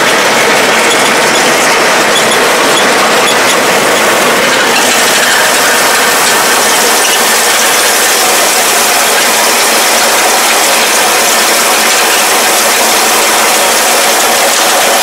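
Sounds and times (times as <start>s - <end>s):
straw baler clattering: 0.0s - 15.0s.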